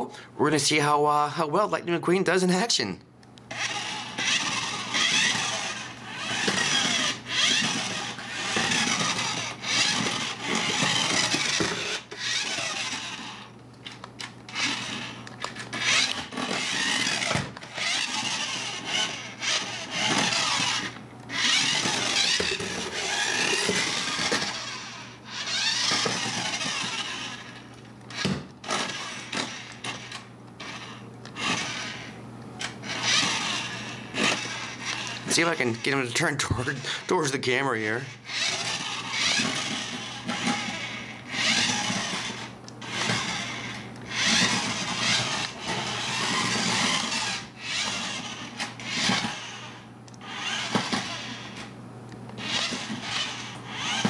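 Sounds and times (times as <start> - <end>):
toy car motor whirring: 3.5 - 51.7, 52.4 - 54.0.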